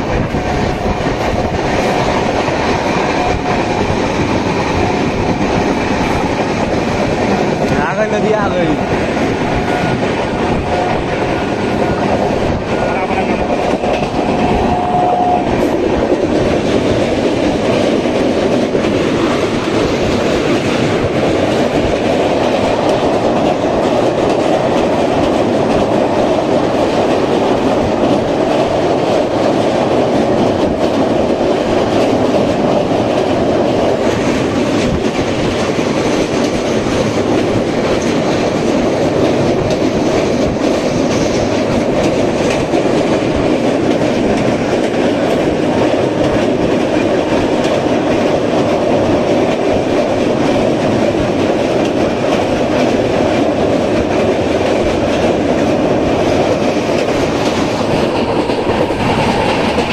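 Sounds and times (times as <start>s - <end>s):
train wheels rumbling on bridge: 0.0s - 59.9s.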